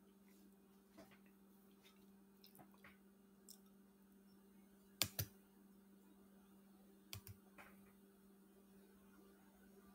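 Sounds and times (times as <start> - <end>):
faint steady hum: 0.0 - 9.9.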